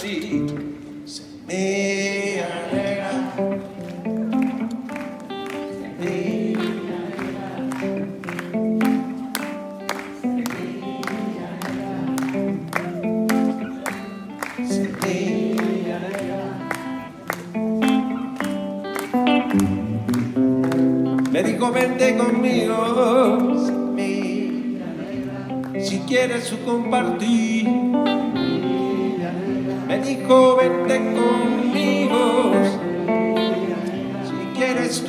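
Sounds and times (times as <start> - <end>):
live band music: 2.6 - 35.0
plucked guitar notes: 2.7 - 35.0.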